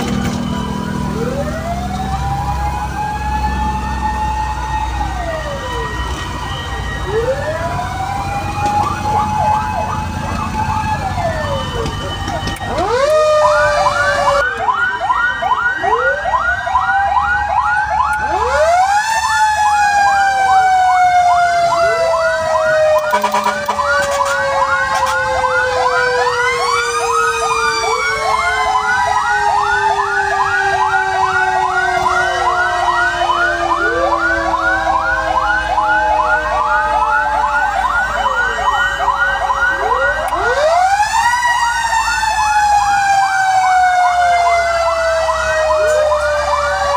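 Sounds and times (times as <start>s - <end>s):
fire truck sirens yelping and wailing: 0.0s - 46.9s.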